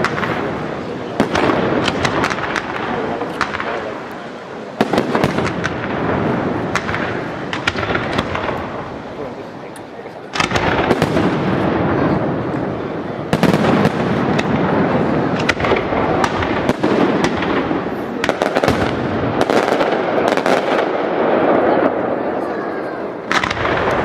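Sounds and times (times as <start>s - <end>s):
fireworks crackle: 0.0s - 24.0s.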